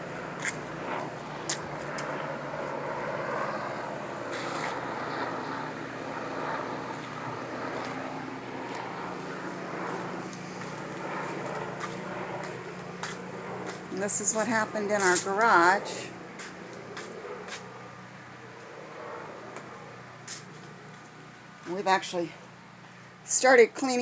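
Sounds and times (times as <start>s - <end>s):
helicopter engine and rotors droning: 0.0s - 24.0s.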